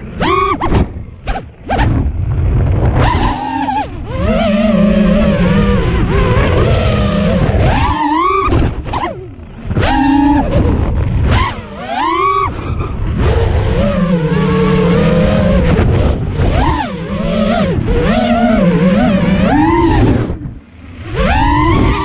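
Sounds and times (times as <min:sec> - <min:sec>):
drone motors whining: 0:00.0 - 0:22.0
wind rush: 0:00.0 - 0:22.0.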